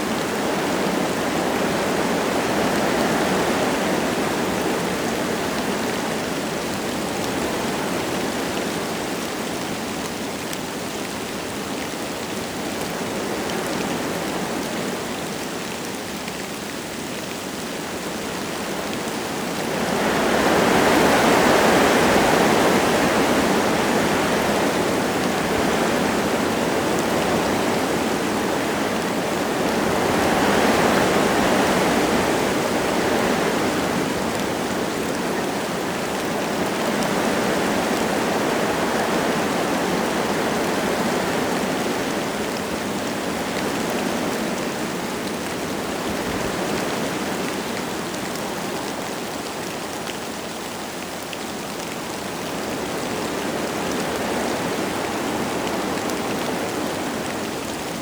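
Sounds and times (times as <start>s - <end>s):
light rain: 0.0s - 58.0s
wind gusting through trees: 0.0s - 58.0s.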